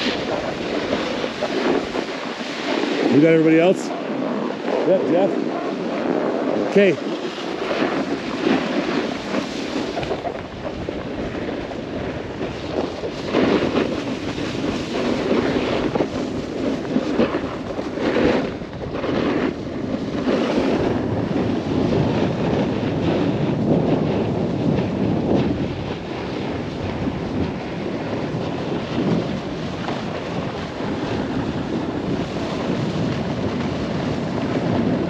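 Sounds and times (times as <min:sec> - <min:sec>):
snowboard scraping over snow: 0:00.0 - 0:35.0
wind on microphone: 0:00.0 - 0:35.0.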